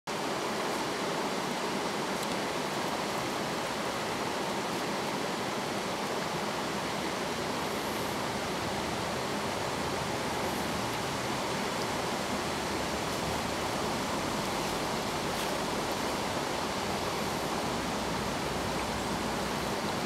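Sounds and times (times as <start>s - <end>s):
stream water rushing over rocks: 0.1s - 20.0s.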